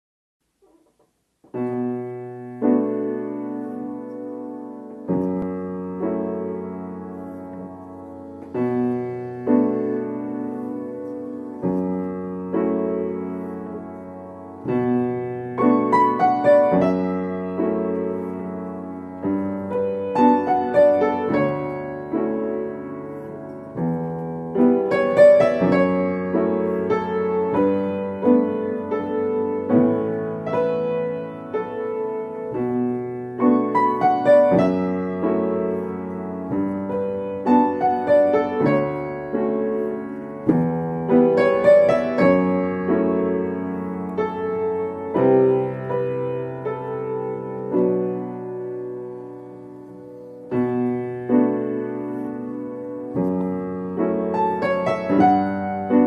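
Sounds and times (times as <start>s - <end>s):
slow solo piano piece: 0.5s - 56.0s.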